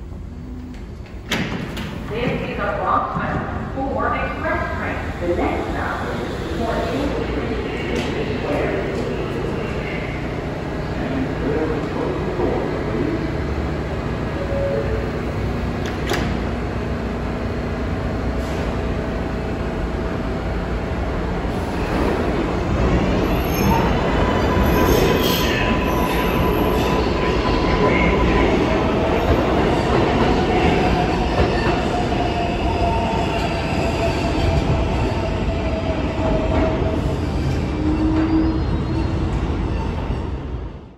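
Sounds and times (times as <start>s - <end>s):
subway train wheels rumbling: 0.0s - 40.9s.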